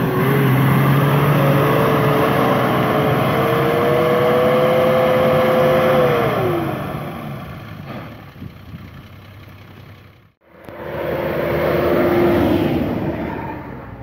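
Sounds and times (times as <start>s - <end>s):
diesel engine revving: 0.0s - 14.0s
off-road vehicle engine revving: 0.0s - 14.0s.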